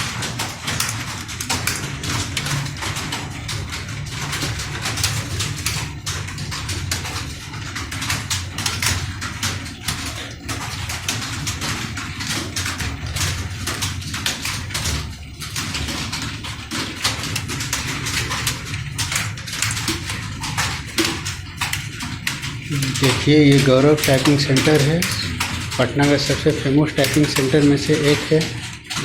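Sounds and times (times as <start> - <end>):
keyboards clattering: 0.0 - 29.0.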